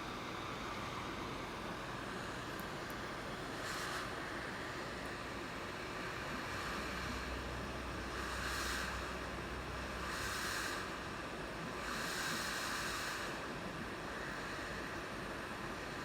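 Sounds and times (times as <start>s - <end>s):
hot air blower hissing: 0.0s - 16.0s.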